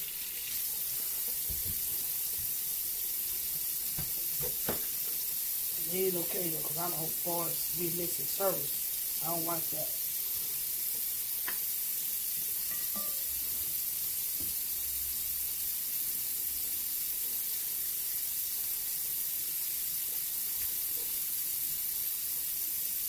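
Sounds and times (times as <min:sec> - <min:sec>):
food sizzling in a pot: 0:00.0 - 0:23.0.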